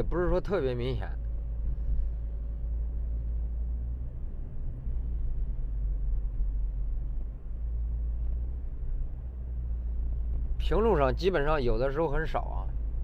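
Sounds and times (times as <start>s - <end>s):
road and drivetrain rumble: 0.0s - 13.0s.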